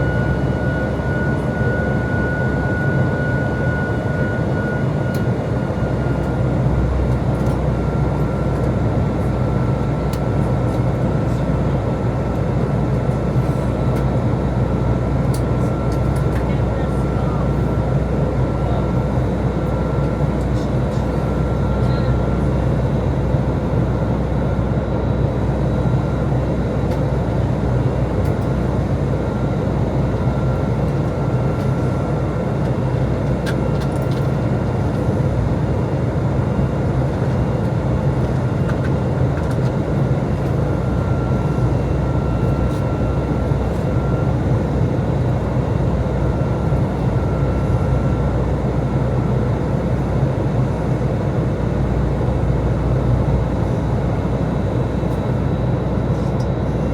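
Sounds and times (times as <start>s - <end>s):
airplane cabin rumble: 0.0s - 56.9s.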